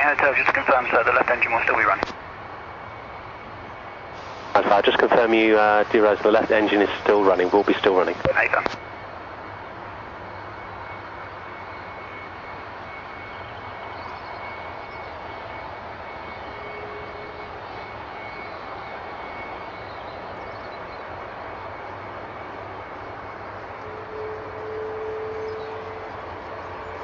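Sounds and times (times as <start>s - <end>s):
jet engine running: 0.0s - 27.0s.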